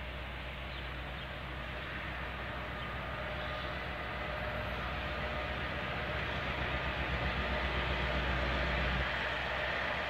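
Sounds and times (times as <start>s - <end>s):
approaching train rumble: 0.0s - 10.0s.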